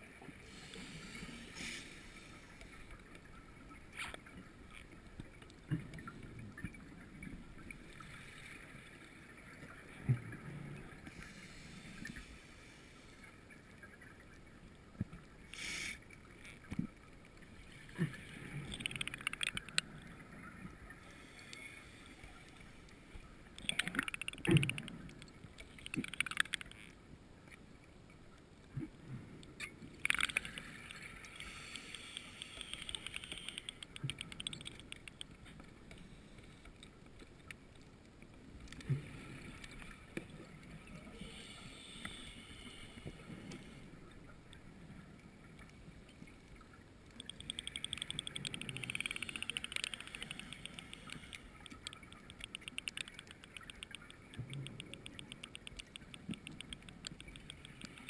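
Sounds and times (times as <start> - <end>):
underwater bubbles fizzing and gurgling: 0.0 - 27.8, 28.4 - 58.0.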